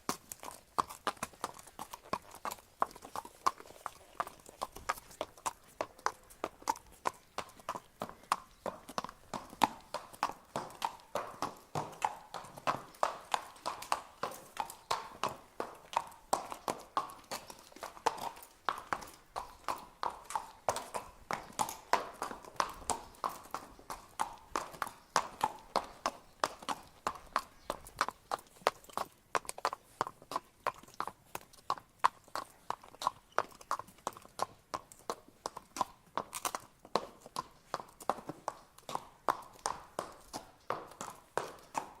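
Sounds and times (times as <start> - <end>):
horse hooves clip-clopping: 0.0 - 42.0.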